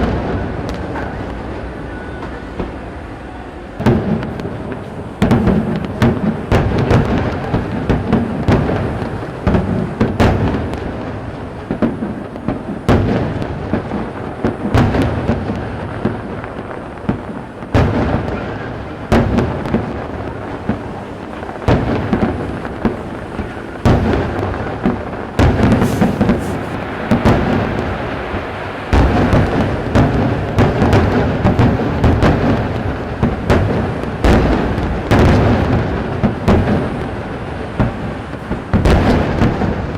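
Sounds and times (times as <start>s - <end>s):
fireworks booming with echo: 0.0s - 39.9s.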